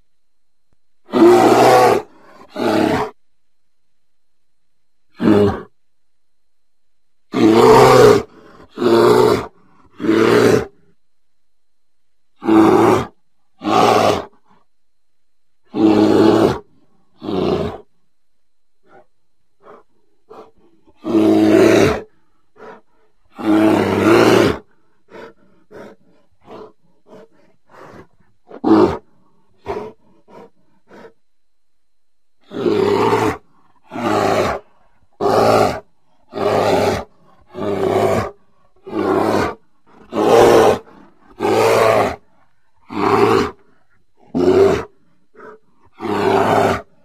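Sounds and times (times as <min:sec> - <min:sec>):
bear roaring: 0:01.0 - 0:03.2, 0:05.1 - 0:05.7, 0:07.3 - 0:11.0, 0:12.4 - 0:14.6, 0:15.6 - 0:17.9, 0:18.8 - 0:31.2, 0:32.4 - 0:47.0.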